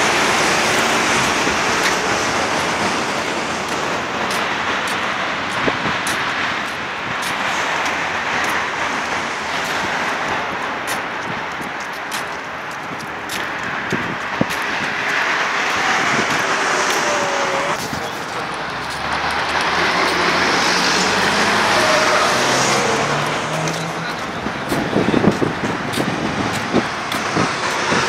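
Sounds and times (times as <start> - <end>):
passing vehicle engine: 0.0 - 28.0
road traffic hiss: 0.0 - 28.0.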